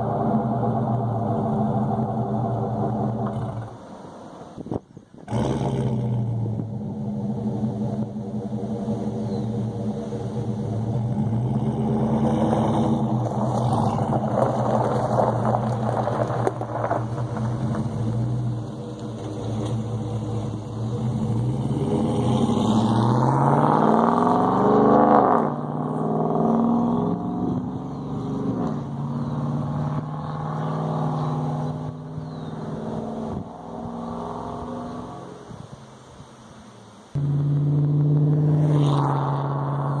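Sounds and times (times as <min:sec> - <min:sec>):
truck exhaust accelerating: 0:00.0 - 0:03.9, 0:04.7 - 0:35.7, 0:37.2 - 0:40.0.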